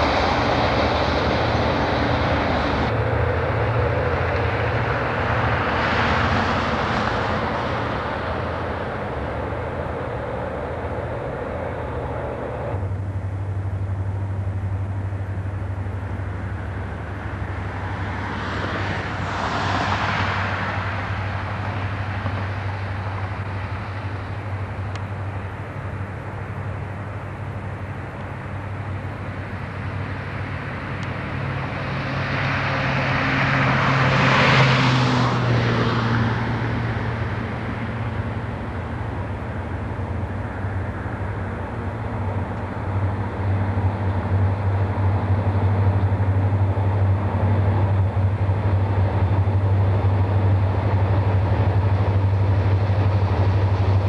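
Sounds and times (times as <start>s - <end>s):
diesel locomotive engine drone: 0.0s - 54.0s
rushing noise: 0.0s - 54.0s.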